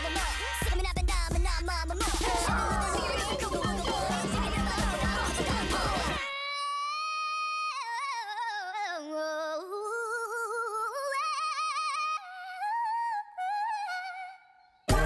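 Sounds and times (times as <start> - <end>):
person singing wordless melody: 1.9 - 15.0.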